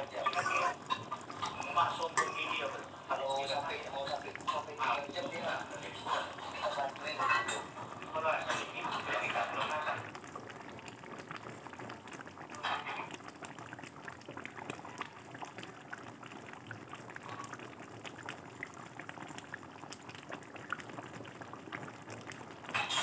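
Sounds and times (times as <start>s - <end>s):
sauce bubbling and popping: 0.0s - 23.0s.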